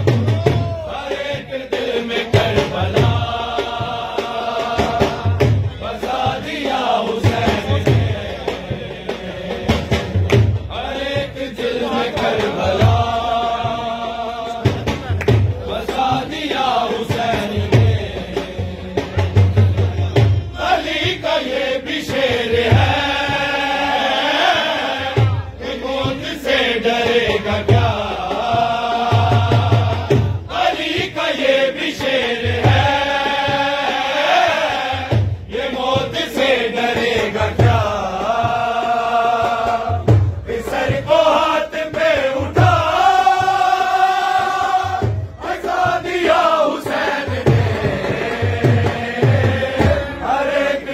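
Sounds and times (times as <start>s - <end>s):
low thud keeping the beat: 0.0s - 50.9s
men chanting in unison: 0.0s - 50.9s.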